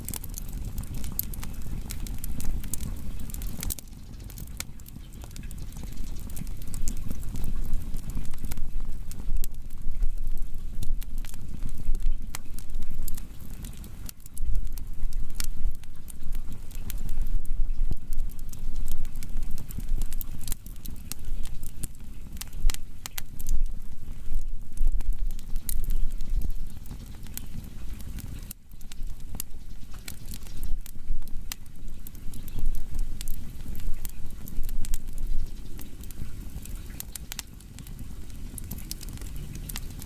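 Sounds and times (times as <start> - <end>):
firewood crackling and popping: 0.0 - 40.0
low rumble of flames: 0.0 - 40.0.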